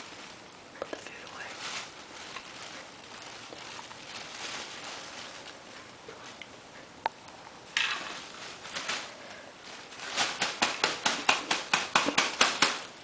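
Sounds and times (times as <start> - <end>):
bedding rustling: 0.0 - 6.8, 7.7 - 13.0.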